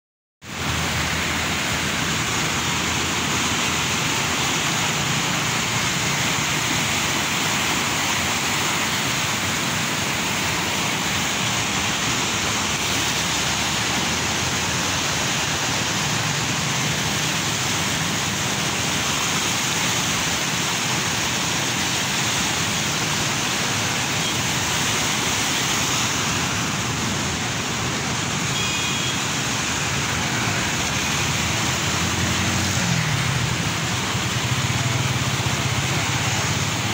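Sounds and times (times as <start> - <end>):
river rushing: 0.4 - 36.9.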